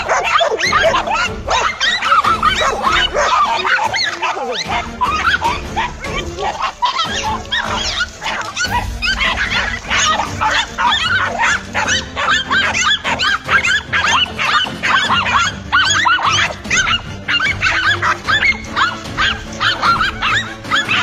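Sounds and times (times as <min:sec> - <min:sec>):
dogs barking and yelping: 0:00.0 - 0:21.0
music: 0:00.0 - 0:21.0.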